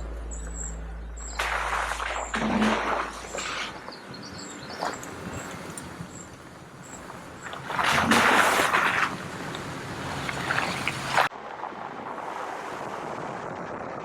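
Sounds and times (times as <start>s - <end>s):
engine and tyres humming: 0.0s - 14.0s
splash of muddy water: 1.2s - 13.5s.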